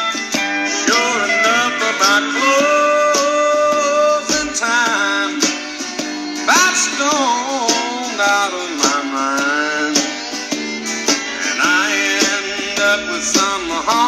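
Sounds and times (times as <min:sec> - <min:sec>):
country music from a vinyl record: 0:00.0 - 0:14.0
guitar and fiddle with sliding notes: 0:00.0 - 0:14.0.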